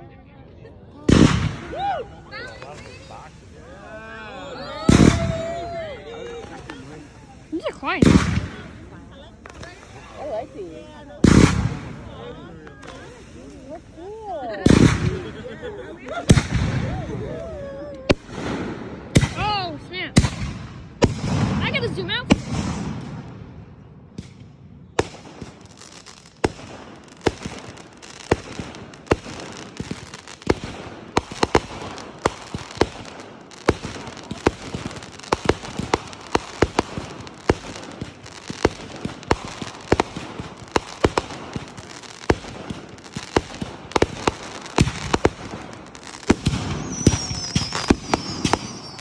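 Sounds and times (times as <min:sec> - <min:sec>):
fireworks bangs and crackling: 0:00.9 - 0:49.0.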